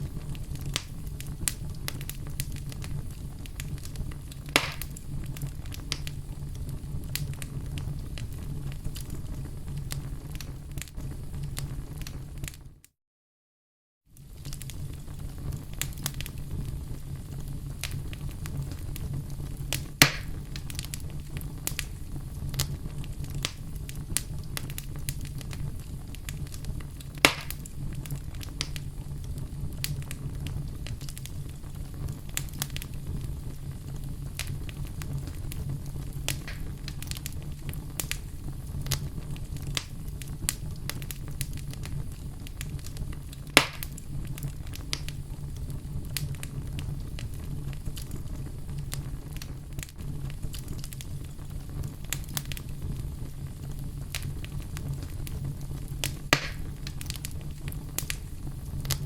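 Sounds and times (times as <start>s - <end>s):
sharp pops from fire: 0.0s - 12.6s, 14.2s - 59.0s
wood fire crackling: 0.0s - 12.8s, 14.1s - 59.0s.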